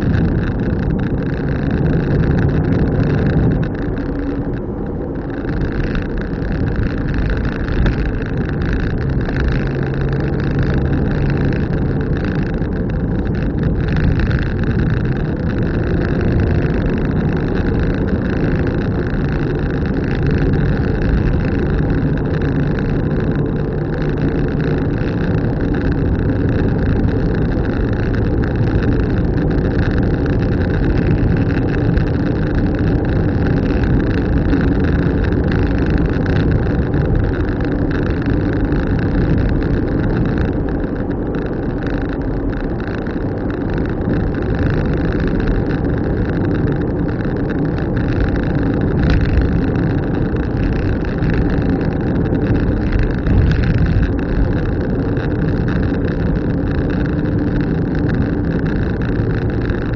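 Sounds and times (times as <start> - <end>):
car engine hum: 0.0 - 59.9
road and tyre noise: 0.0 - 59.9.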